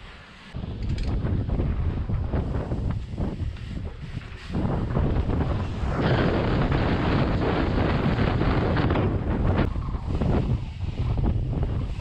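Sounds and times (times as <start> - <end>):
tyres rumbling on dirt trail: 0.0 - 12.0
wind buffeting microphone: 0.6 - 12.0.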